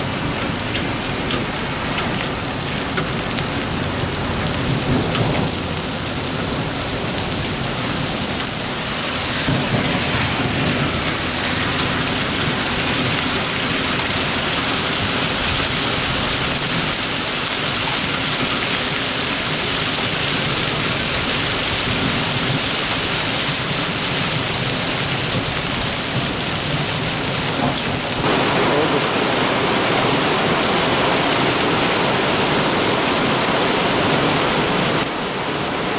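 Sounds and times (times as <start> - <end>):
heavy rain on road: 0.0 - 35.9.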